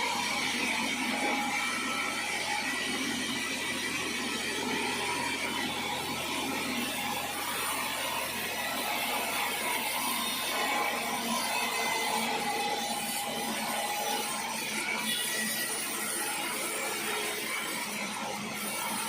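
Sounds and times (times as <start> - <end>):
saw cutting through log: 0.0 - 19.0.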